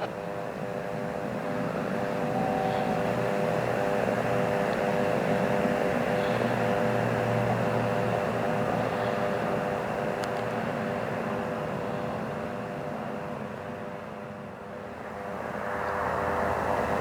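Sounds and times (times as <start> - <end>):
aircraft engine droning: 0.0 - 17.0.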